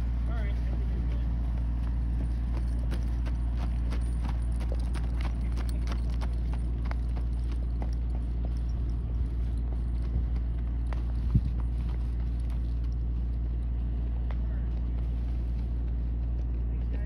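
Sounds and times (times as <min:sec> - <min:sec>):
horse hoofbeats on dirt road: 0:00.0 - 0:17.0
steady low hum: 0:00.0 - 0:17.0.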